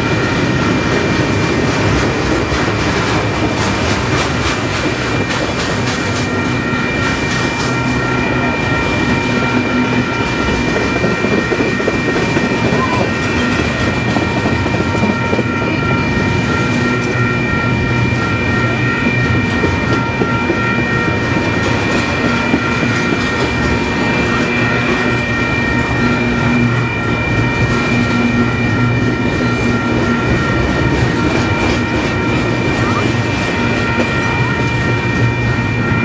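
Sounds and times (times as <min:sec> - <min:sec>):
high ringing tones: 0:00.0 - 0:36.0
train wheels rumbling on rail: 0:00.0 - 0:36.0.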